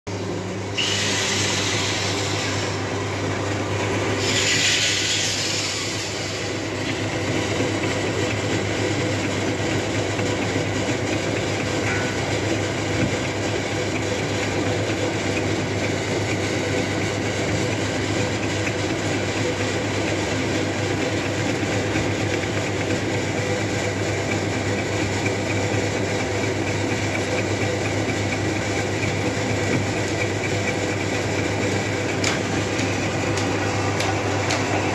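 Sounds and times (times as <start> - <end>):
metal lathe humming: 0.1 - 34.9.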